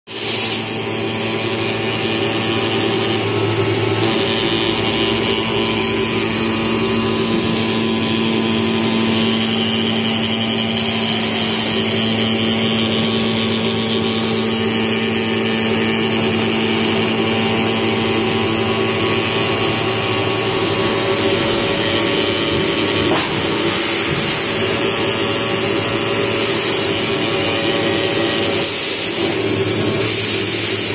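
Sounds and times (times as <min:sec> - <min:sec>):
cutting machine whirring: 0:00.1 - 0:30.9.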